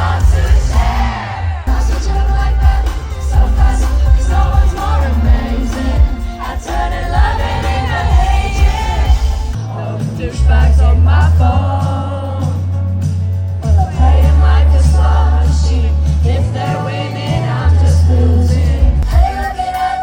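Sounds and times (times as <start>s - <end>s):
person singing: 0.0s - 12.7s, 13.6s - 20.0s
live pop music with heavy bass: 0.0s - 20.0s.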